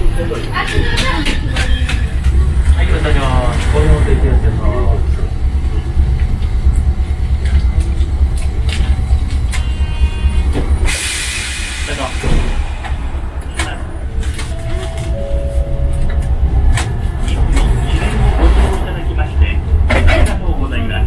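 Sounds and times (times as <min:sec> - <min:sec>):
tram rumbling on track: 0:00.0 - 0:21.0.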